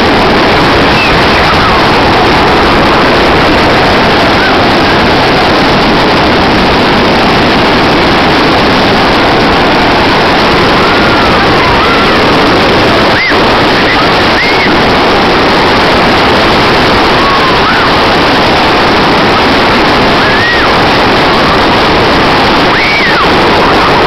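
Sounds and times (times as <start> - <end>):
beach rushing noise: 0.0 - 24.0
fluttering rumble: 0.0 - 24.0.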